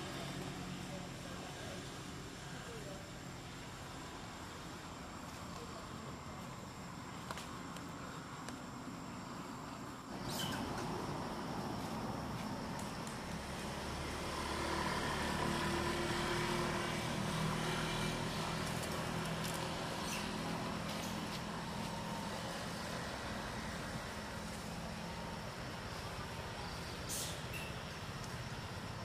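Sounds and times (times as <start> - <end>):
outdoor background noise: 0.0 - 29.0
vehicle engine hum: 0.0 - 29.0.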